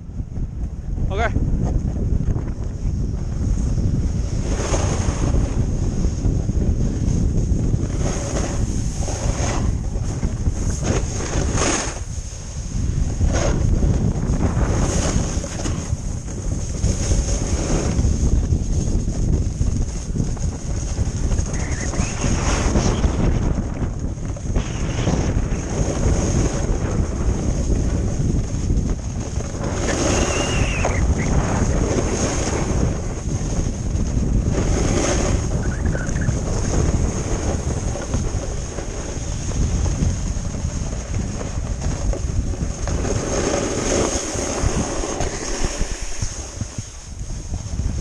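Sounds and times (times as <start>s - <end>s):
wind buffeting microphone: 0.0s - 48.0s
snowboard scraping icy snow: 2.8s - 48.0s.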